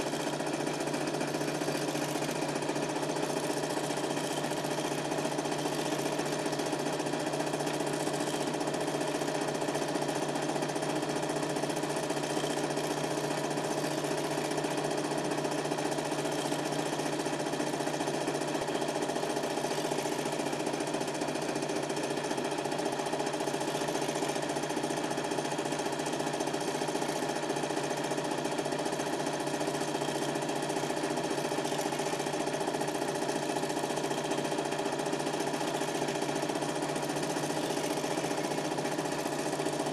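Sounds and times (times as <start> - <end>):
film projector rattling: 0.0 - 39.9.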